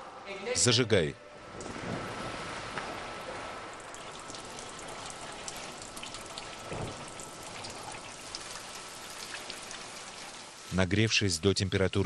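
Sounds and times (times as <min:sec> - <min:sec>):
oil fire hissing and crackling: 0:02.1 - 0:12.0.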